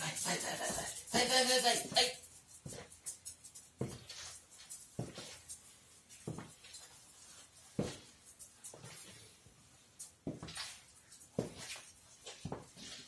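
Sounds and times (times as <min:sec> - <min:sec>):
boot footsteps on tiled floor: 0:01.9 - 0:13.0.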